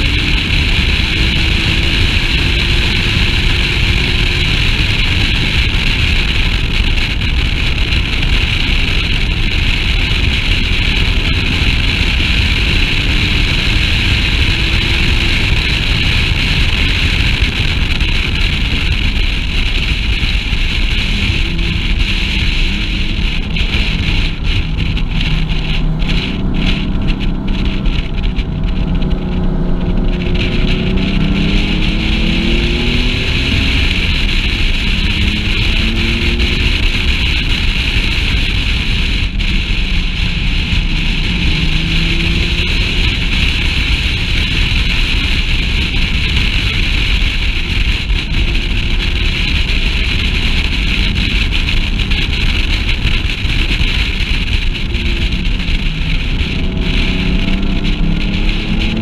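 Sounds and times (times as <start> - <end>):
sports car engine accelerating: 0.0 - 59.0
wind noise on microphone: 0.0 - 59.0.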